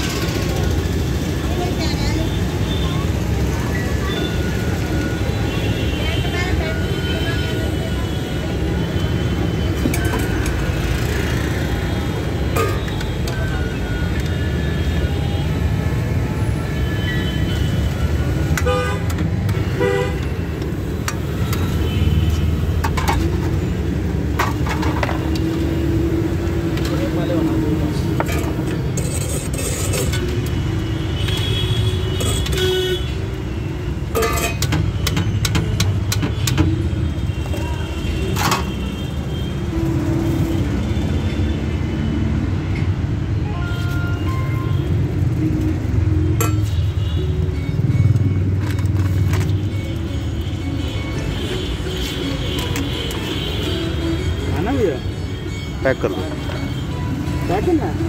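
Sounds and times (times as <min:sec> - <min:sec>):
street noise rumble: 0:00.0 - 0:58.0.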